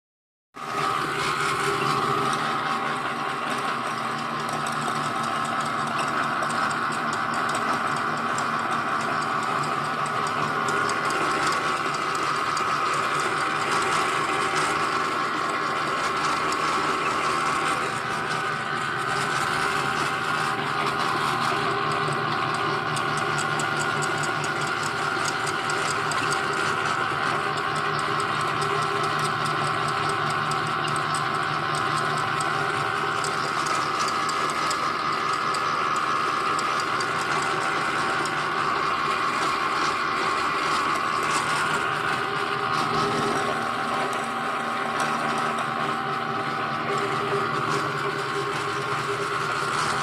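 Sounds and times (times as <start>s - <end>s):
pellet machine droning: 0.6s - 50.0s.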